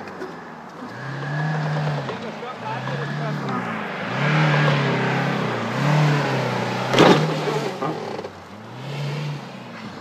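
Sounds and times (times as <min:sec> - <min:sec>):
car engine revving: 0:00.7 - 0:10.0.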